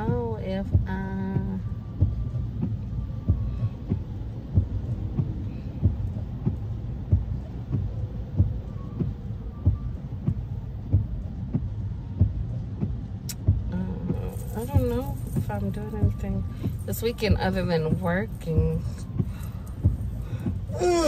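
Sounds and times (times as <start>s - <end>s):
car interior hum: 0.0s - 21.0s
soft low thumps: 0.0s - 21.0s.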